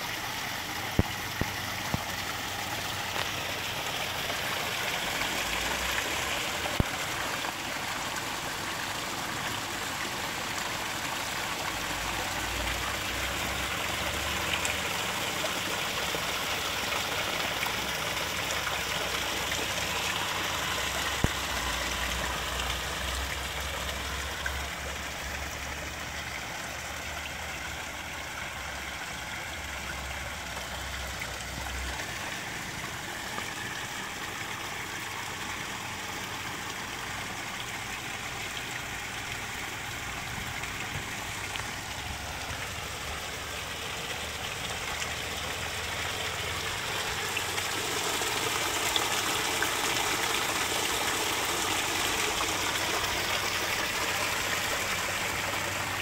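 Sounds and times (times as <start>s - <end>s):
waterfall splashing: 0.0s - 24.2s, 29.5s - 56.0s.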